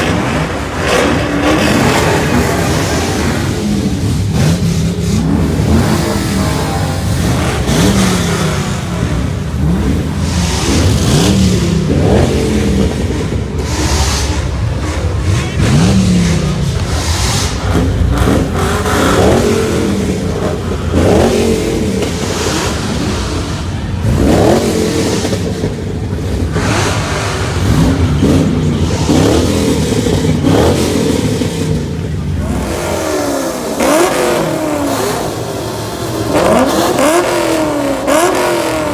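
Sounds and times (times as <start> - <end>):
many car engines revving: 0.0 - 38.9.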